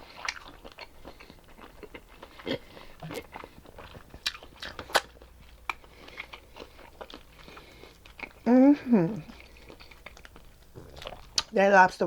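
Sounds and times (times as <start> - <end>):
chewing with wet mouth clicks: 0.0 - 8.5, 9.2 - 11.6.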